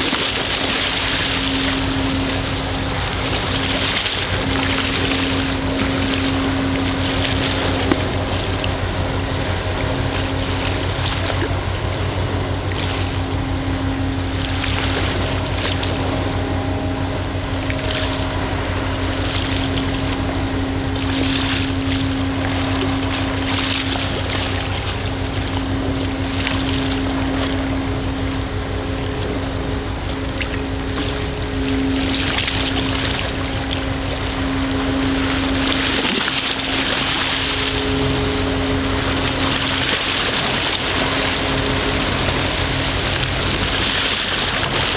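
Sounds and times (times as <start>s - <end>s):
boat engine droning: 0.0s - 44.9s
water washing along hull: 0.0s - 44.9s.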